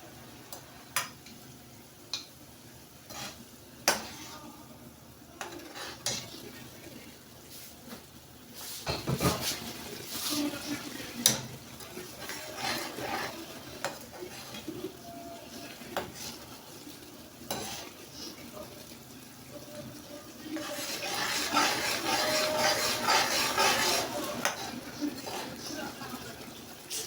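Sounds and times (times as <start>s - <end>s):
sauce frying in hot oil: 0.1s - 27.0s.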